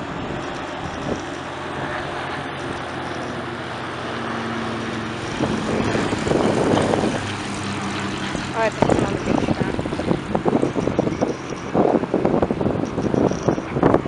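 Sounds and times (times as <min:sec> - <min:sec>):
aircraft engine running: 0:00.0 - 0:14.0
wind noise on microphone: 0:00.0 - 0:14.0.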